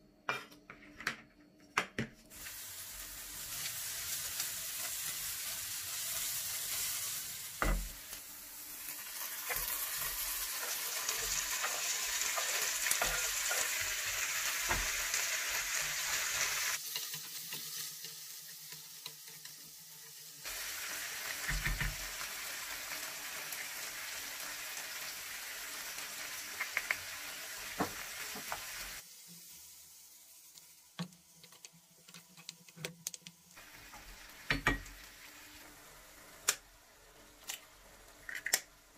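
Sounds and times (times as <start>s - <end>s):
vegetables sizzling in a frying pan: 2.3s - 38.9s.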